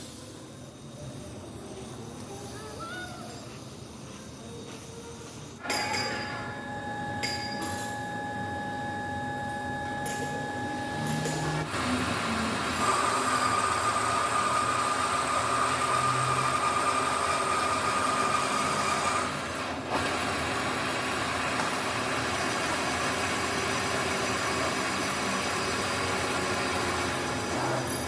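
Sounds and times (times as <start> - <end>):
workshop machine running: 0.0 - 28.0.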